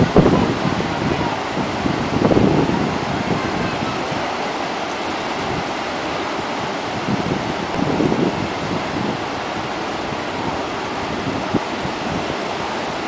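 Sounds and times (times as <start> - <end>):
sea surf washing on shore: 0.0 - 13.0
wave breaking: 0.0 - 13.0.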